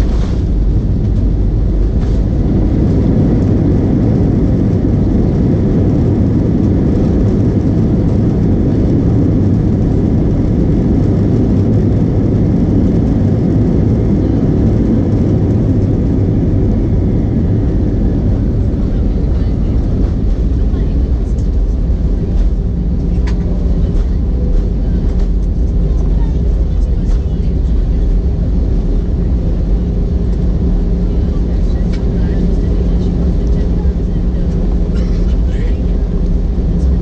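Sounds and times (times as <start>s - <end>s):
airplane cabin rumble on runway: 0.0s - 37.0s.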